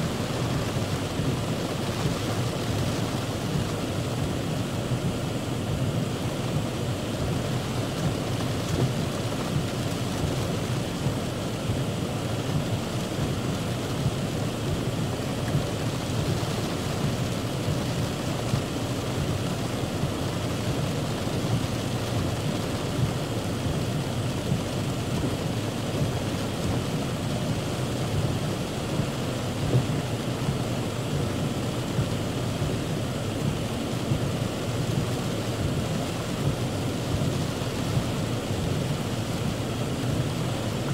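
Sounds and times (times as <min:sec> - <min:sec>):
heavy rain on car roof: 0:00.0 - 0:40.9.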